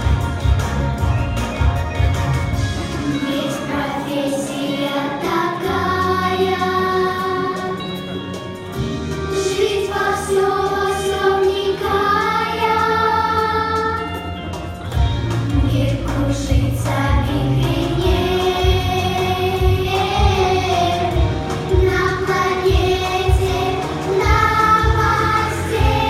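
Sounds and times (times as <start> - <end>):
backing track music: 0.0 - 26.0
children's choir singing: 2.8 - 8.2, 9.2 - 14.5, 15.4 - 26.0.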